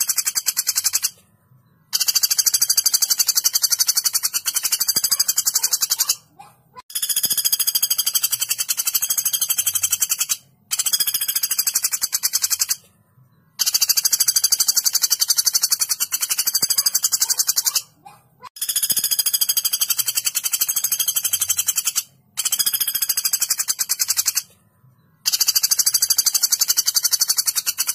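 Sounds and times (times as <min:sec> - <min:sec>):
woodpecker rattling trills: 0:00.0 - 0:01.2, 0:01.8 - 0:12.9, 0:13.6 - 0:24.5, 0:25.2 - 0:27.9.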